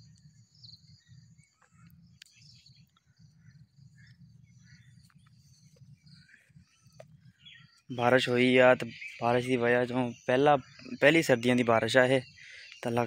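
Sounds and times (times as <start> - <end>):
bird chirps: 0.0 - 13.0
insects: 0.0 - 13.0.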